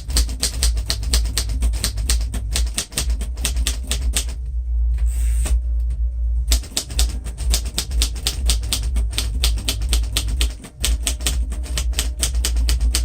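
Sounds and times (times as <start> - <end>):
typewriter keys clicking: 0.0 - 4.4, 6.5 - 13.0
steady low hum: 0.0 - 13.0.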